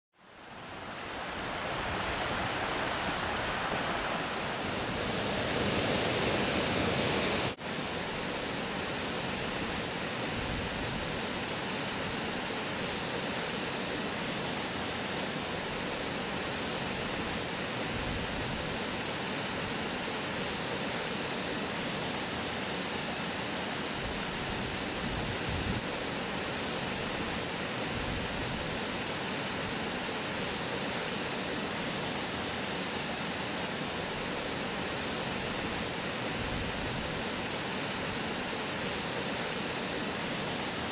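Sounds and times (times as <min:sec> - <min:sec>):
water rushing over rocks: 0:00.5 - 0:40.9.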